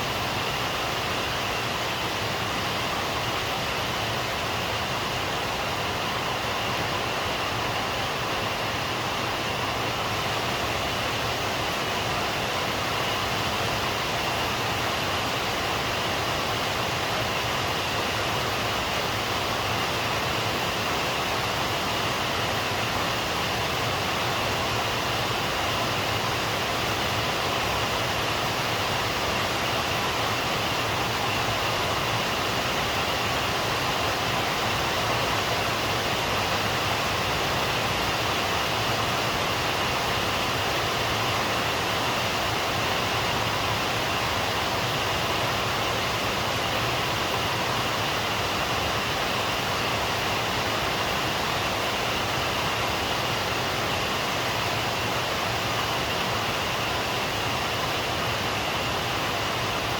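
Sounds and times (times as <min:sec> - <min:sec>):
heavy rainfall: 0:00.0 - 0:59.9.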